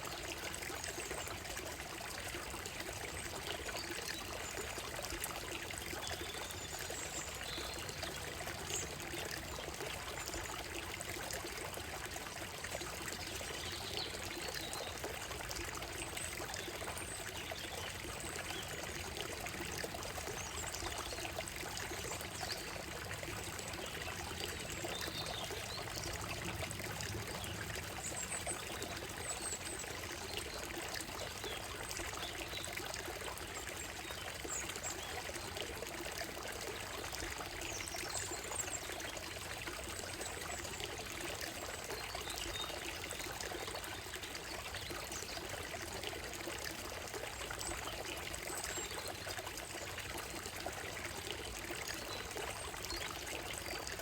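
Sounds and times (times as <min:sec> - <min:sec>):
stream over stones: 0:00.0 - 0:54.0.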